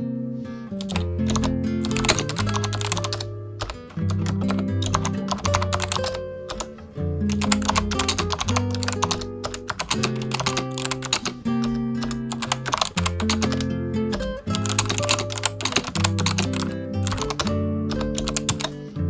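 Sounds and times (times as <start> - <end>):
keyboard key clicks: 0.8 - 18.8.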